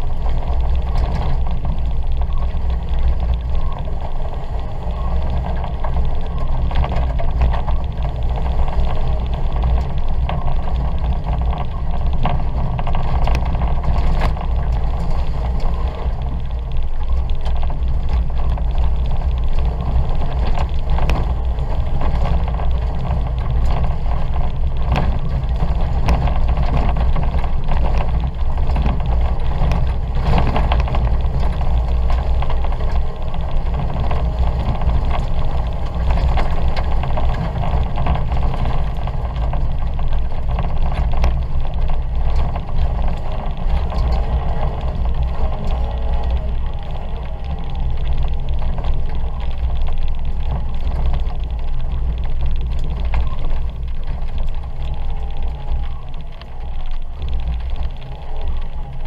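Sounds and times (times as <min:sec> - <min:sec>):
car engine running hard: 0:00.0 - 0:59.0
tyres rumbling on wet dirt: 0:00.0 - 0:59.0.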